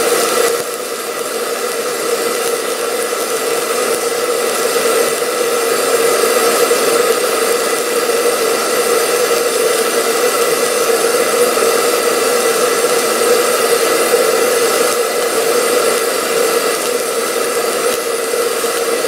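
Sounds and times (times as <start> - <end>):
welding arc hissing: 0.0 - 19.0.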